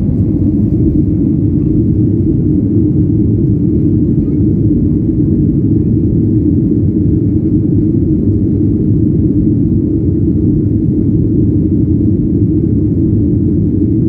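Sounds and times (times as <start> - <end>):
muffled jet engine rumble: 0.0 - 14.0.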